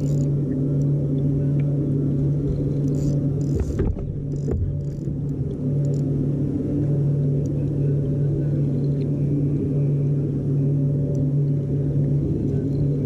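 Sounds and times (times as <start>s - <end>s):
low steady motor hum: 0.0s - 13.0s.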